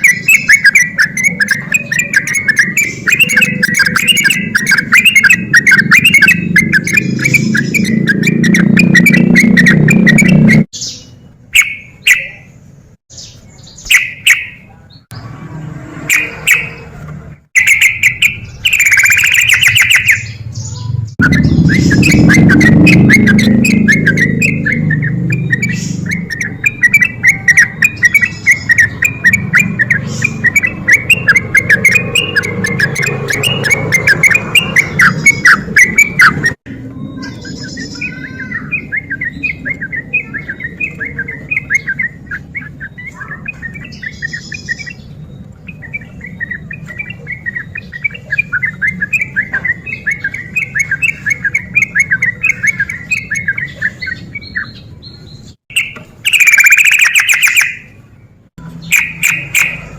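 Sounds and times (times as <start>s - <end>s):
bulbul singing rapid chirps: 0.0s - 15.3s, 16.0s - 58.0s, 58.6s - 59.9s.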